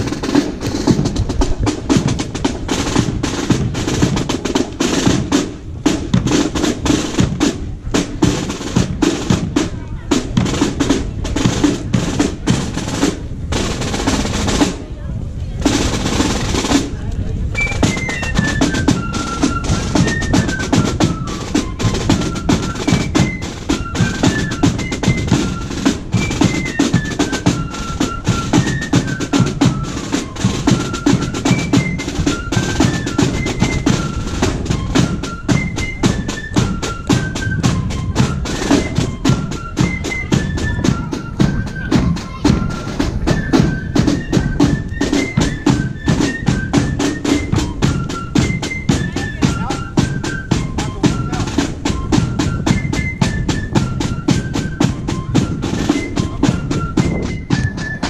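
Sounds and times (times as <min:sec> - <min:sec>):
snare and bass drums: 0:00.0 - 0:58.0.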